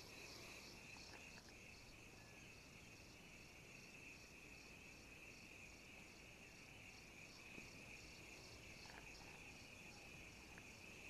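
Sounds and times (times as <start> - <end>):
insect chorus buzzing: 0.0 - 11.0
pulsing high insect layer: 0.0 - 11.0.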